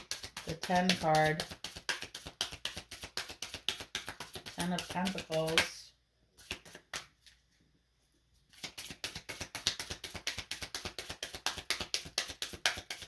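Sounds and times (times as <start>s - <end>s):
cards being shuffled: 0.0s - 5.8s, 6.4s - 7.4s, 8.5s - 13.0s.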